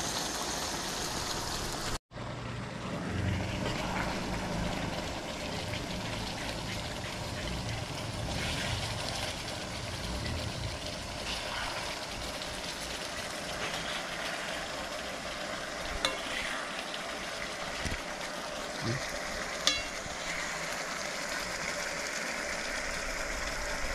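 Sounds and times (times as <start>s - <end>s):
chicken sizzling in a pan: 3.3s - 23.9s.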